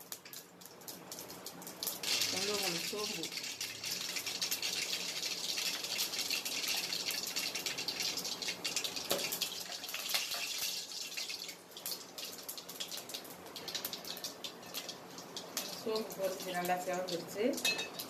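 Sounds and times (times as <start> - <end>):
seeds sizzling in hot oil: 0.0 - 18.0.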